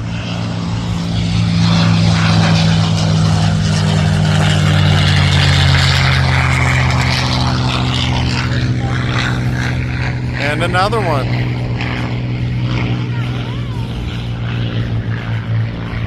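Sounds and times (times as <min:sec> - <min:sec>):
propeller airplane engine drone: 0:00.0 - 0:16.0.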